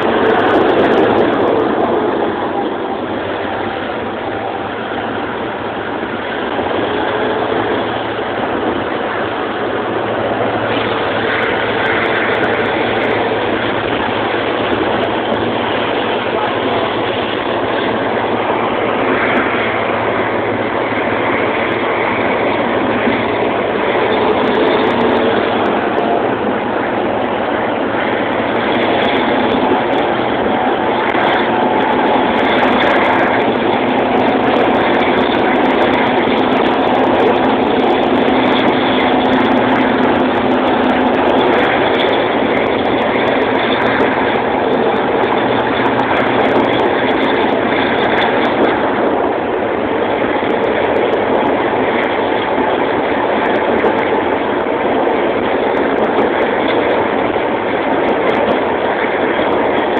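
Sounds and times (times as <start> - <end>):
low hum: 0.0 - 59.9
train rolling rumble: 0.0 - 59.9.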